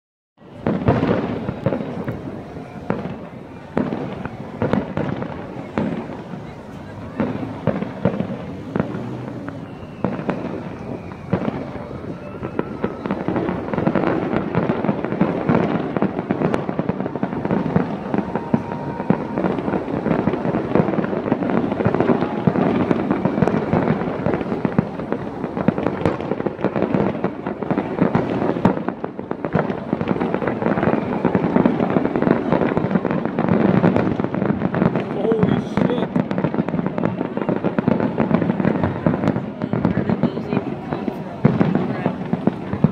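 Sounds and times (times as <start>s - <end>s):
fireworks bursting and crackling: 0.4s - 42.9s.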